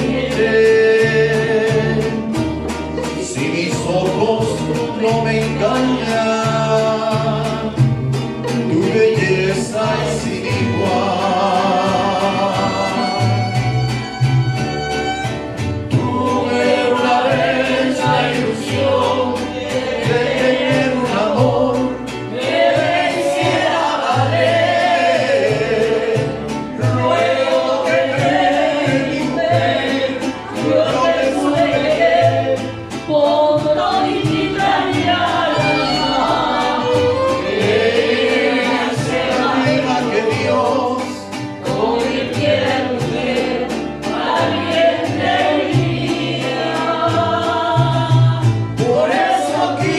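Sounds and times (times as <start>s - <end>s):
voices singing together: 0.0s - 13.6s, 15.8s - 49.9s
bass line: 0.0s - 49.9s
mariachi band playing: 0.0s - 49.9s.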